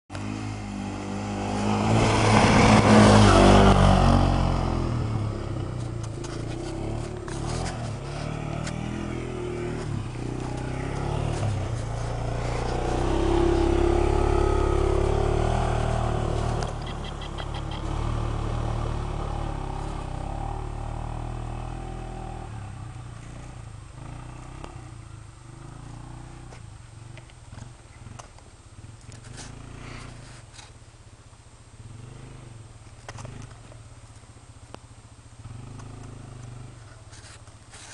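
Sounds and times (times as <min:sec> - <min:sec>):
atv engine passing: 0:00.1 - 0:30.8, 0:31.8 - 0:37.9.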